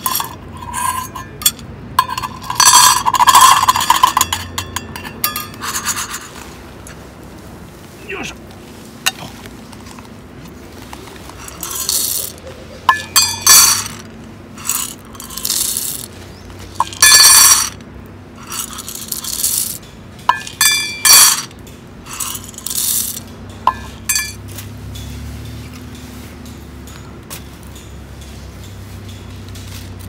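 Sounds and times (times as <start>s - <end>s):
camp gear clinking and rattling: 0.0s - 7.0s, 9.0s - 30.0s.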